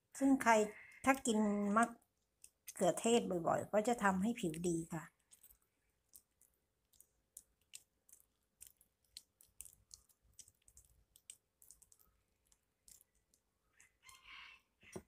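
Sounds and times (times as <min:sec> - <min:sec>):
faint small clicks and crackles: 0:00.8 - 0:03.2, 0:04.4 - 0:15.0.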